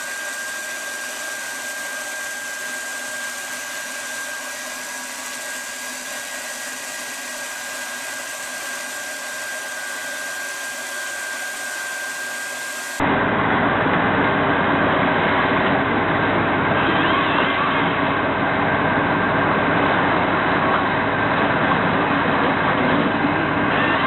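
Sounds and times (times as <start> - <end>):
loud deep machine noise: 0.0 - 24.0
machine noise with high whine: 0.0 - 24.0.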